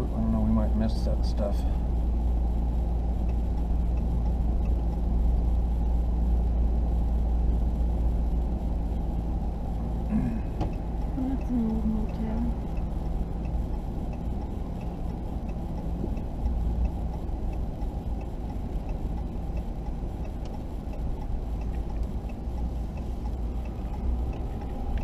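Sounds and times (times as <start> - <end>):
vehicle engine and road noise: 0.0 - 25.0
faint regular ticking: 0.2 - 25.0.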